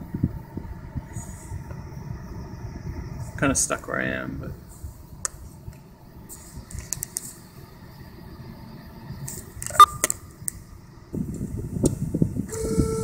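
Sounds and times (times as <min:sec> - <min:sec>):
blower fan humming: 0:00.0 - 0:13.0.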